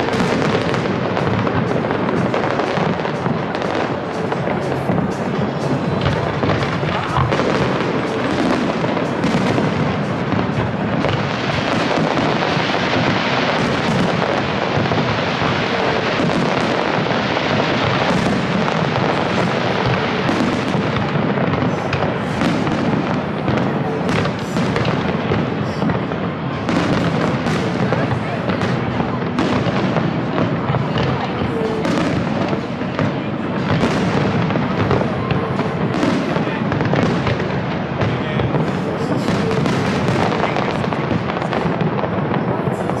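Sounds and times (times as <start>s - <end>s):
fireworks bursting: 0.0s - 43.0s
sharp bangs and crackles: 0.0s - 43.0s.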